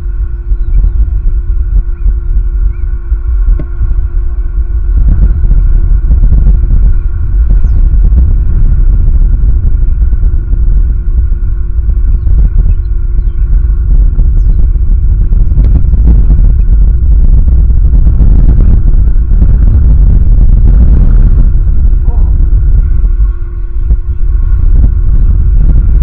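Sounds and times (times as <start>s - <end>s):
faint steady hum: 0.0s - 26.0s
wind buffeting microphone: 0.0s - 26.0s.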